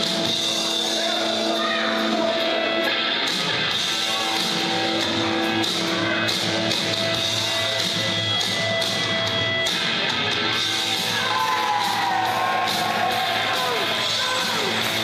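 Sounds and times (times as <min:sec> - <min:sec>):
rock music with guitar over speakers: 0:00.0 - 0:15.0.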